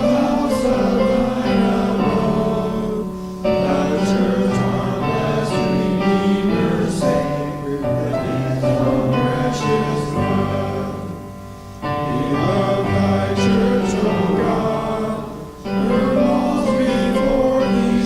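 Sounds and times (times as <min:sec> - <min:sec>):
congregation singing a hymn: 0:00.0 - 0:18.0
piano accompaniment: 0:00.0 - 0:18.0.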